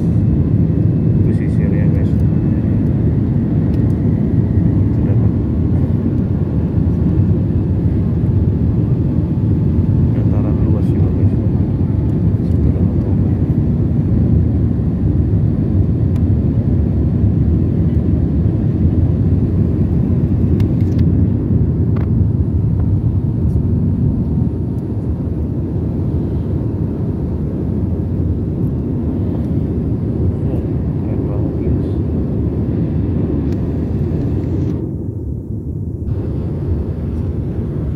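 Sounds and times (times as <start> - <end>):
jet airliner cabin roar: 0.0 - 37.9.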